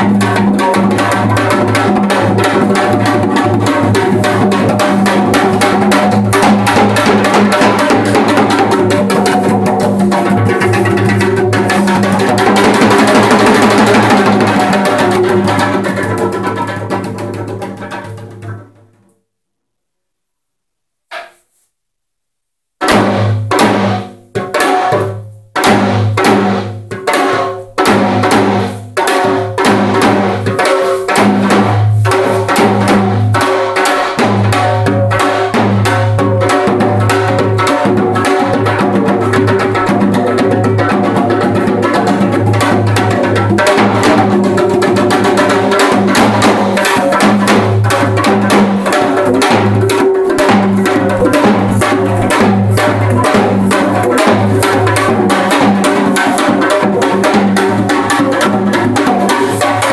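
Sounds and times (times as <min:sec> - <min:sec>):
hourglass drum beaten with sticks: 0:00.0 - 0:18.4, 0:22.9 - 0:59.9.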